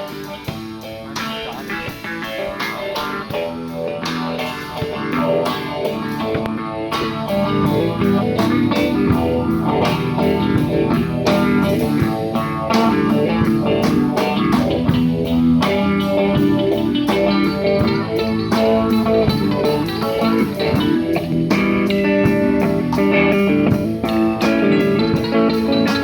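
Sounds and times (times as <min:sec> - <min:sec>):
bass line: 0:00.0 - 0:26.0
guitar plucked and strummed: 0:00.0 - 0:26.0.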